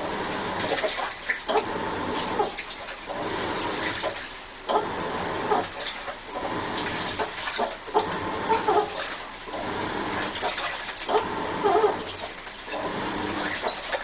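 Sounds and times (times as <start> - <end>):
washing machine churning: 0.0 - 14.0.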